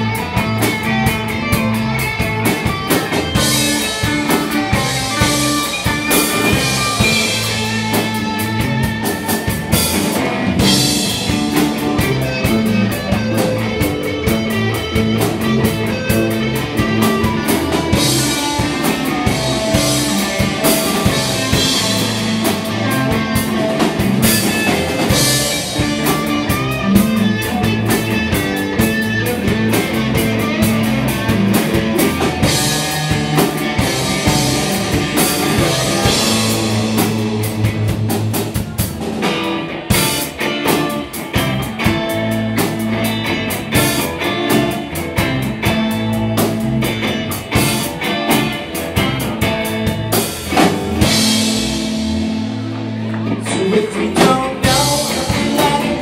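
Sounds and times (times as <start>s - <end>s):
drum kit with cymbal hits: 0.0s - 56.0s
electric guitar: 0.0s - 56.0s.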